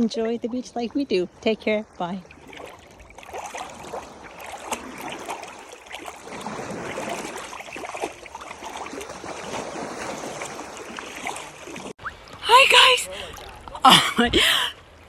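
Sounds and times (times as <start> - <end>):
small waves lapping at shore: 0.0 - 15.0.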